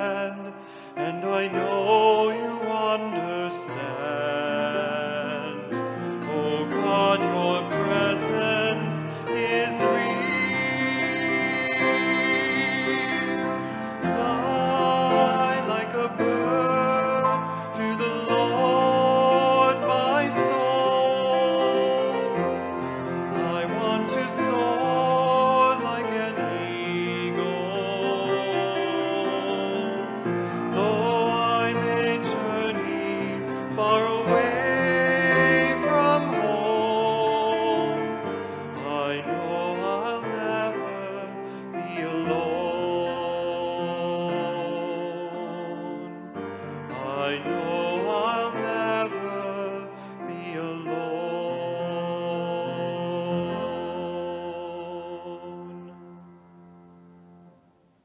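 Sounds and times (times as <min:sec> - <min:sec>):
cello gliding between notes: 0:00.0 - 0:56.2
piano playing hymn: 0:00.0 - 0:58.0.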